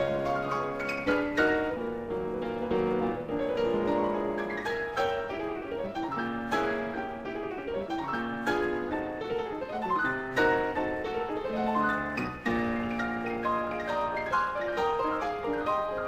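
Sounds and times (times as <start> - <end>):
digital piano melody over chords: 0.0 - 16.0.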